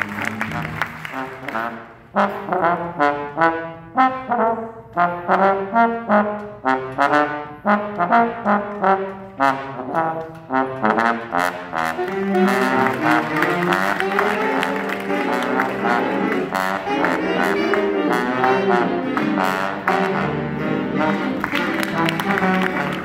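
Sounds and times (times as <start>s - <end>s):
jazz band playing: 0.0s - 23.0s.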